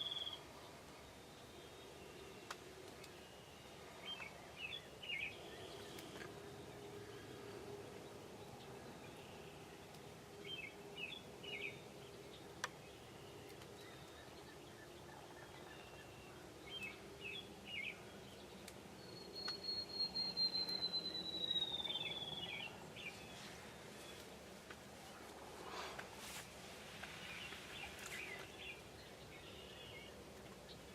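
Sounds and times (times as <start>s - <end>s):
faint low hum: 0.0s - 30.9s
songbirds chirping: 0.0s - 30.9s.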